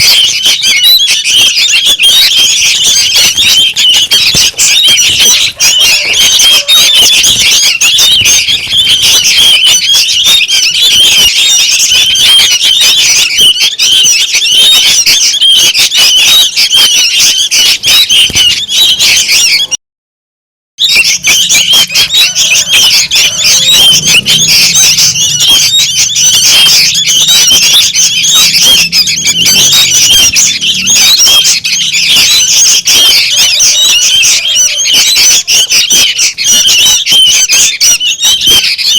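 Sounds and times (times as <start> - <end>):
bird chicks chattering: 0.0 - 19.8, 20.8 - 38.9.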